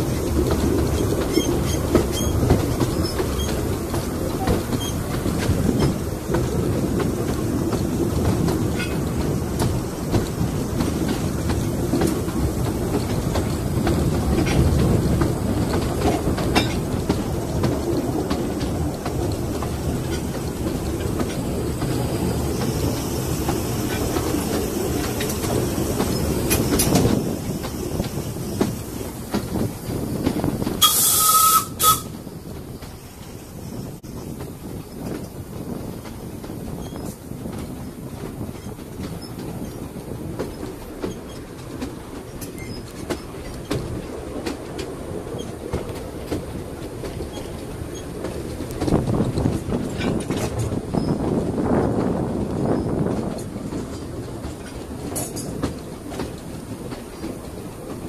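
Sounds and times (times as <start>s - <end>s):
steam locomotive wheels rumbling: 0.0s - 58.0s
wheels clicking over rail joints: 0.0s - 58.0s.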